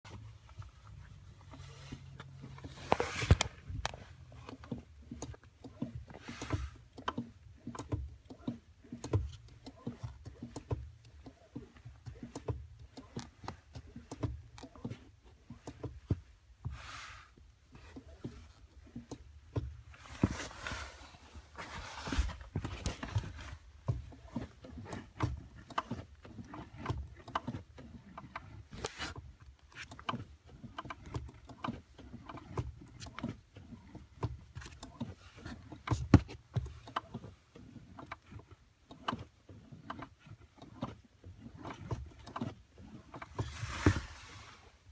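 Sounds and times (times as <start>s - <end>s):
clutch pedal squeaking: 0.9s - 20.8s, 21.5s - 44.4s.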